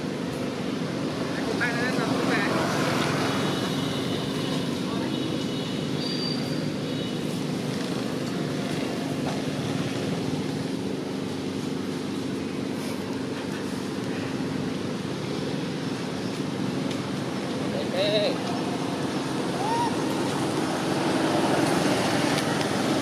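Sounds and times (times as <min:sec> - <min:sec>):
low mechanical drone with hiss: 0:00.0 - 0:04.9, 0:05.6 - 0:23.0.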